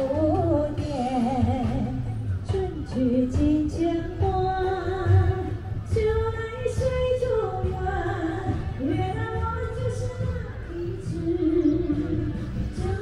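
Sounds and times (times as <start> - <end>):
backing music: 0.0 - 13.0
woman singing slow melody: 0.0 - 13.0.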